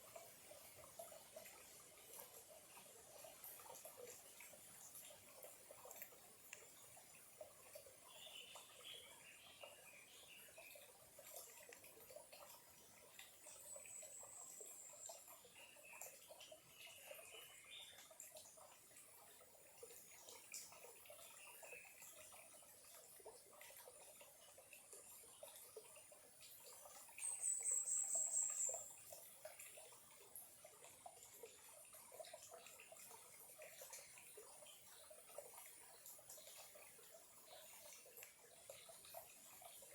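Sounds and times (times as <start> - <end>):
faint trickle of small stream: 0.0 - 39.9.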